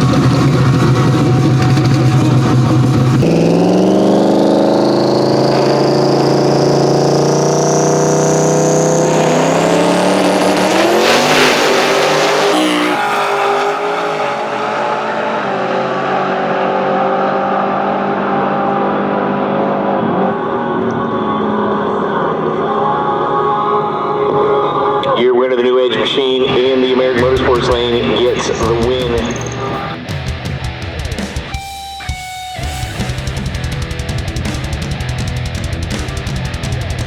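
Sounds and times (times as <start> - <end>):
drag car engine revving: 0.0 - 24.2, 25.5 - 37.0
high turbo whine: 0.0 - 37.0.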